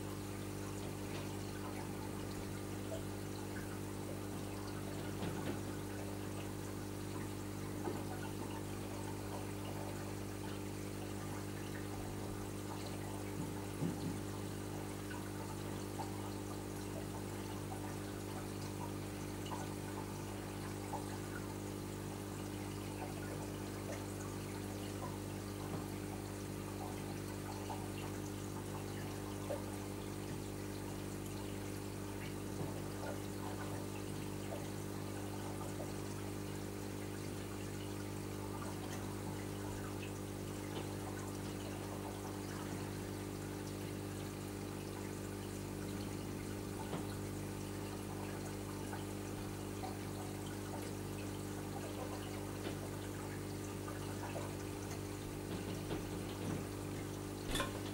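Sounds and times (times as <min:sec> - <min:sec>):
aquarium pump hum: 0:00.0 - 0:57.9
water trickling: 0:00.0 - 0:57.9.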